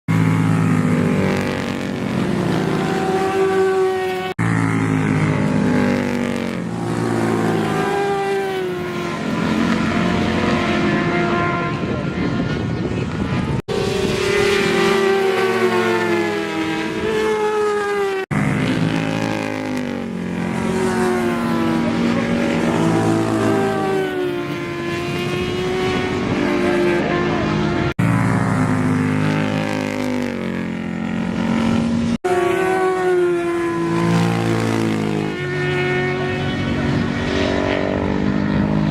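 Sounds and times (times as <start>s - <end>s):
racing engines revving: 0.1s - 38.9s.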